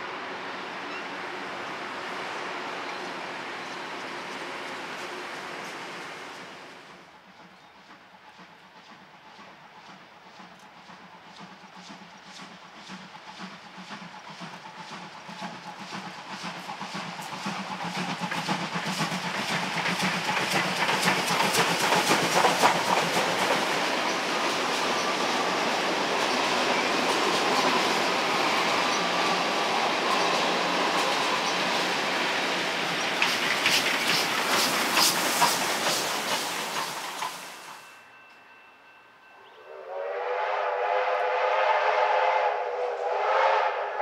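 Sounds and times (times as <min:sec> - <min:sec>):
train passing: 0:00.0 - 0:44.0.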